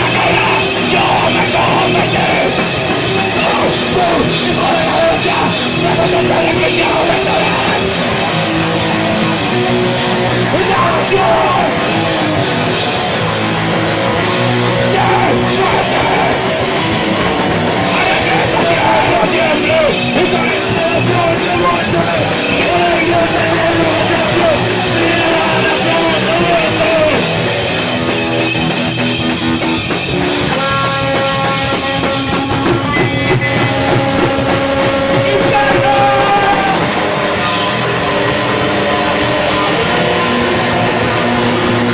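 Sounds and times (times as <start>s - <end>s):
distorted electric guitar: 0.0s - 41.9s
heavy rock band playing: 0.0s - 41.9s.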